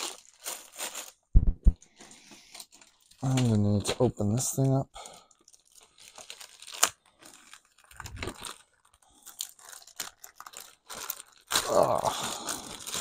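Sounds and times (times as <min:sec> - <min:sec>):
packaging crinkling and tearing: 0:00.0 - 0:01.2, 0:02.0 - 0:13.0.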